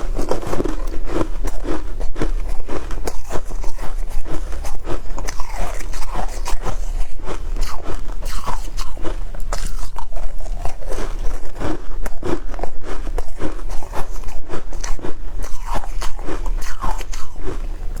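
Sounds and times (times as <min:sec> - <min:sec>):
ice being crunched by teeth: 0:00.0 - 0:18.0.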